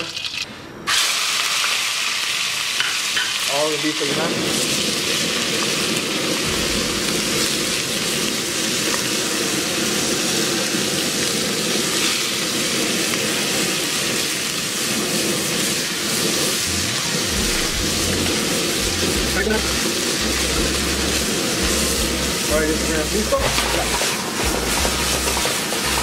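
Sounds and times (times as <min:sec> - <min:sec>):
beef sizzling in a hot wok: 0:00.0 - 0:26.0
gas burner rushing: 0:00.8 - 0:26.0.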